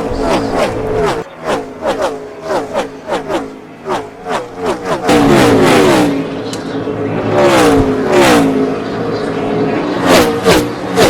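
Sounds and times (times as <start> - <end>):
race car engine: 0.0 - 11.0
race cars passing: 0.0 - 11.0.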